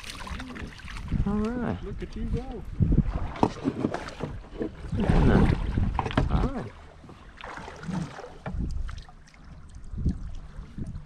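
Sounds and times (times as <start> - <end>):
river water slapping against boat hull: 0.0 - 1.6, 2.8 - 11.0
wind on microphone: 0.0 - 7.1, 7.8 - 11.0.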